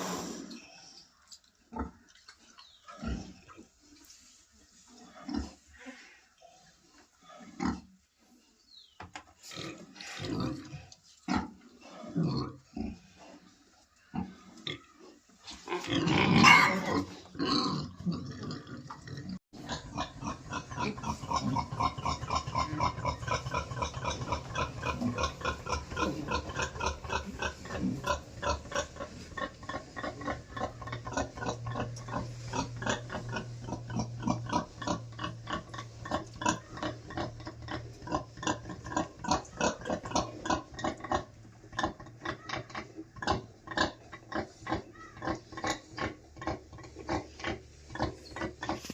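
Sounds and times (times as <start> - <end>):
pigs grunting: 2.8 - 3.7, 5.0 - 8.0, 9.5 - 48.9.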